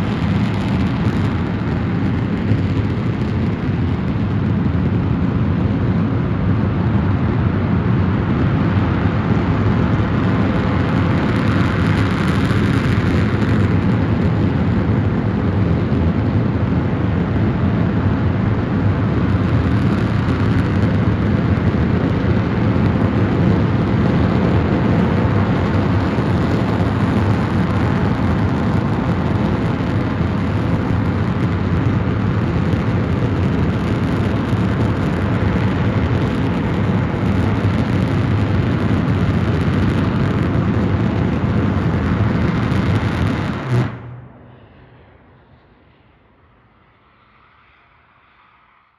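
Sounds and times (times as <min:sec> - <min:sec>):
rocket engine firing: 0:00.0 - 0:44.5.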